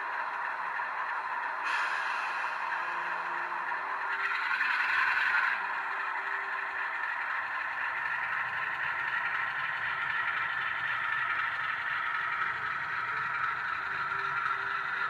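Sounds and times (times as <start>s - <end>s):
diesel engine sound from model train: 0.0s - 15.0s
wheels rattling on track: 0.0s - 15.0s.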